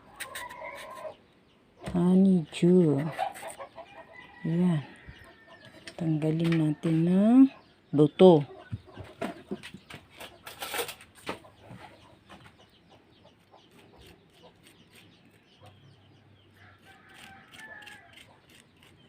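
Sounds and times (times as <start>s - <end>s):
chickens clucking: 0.0s - 16.1s.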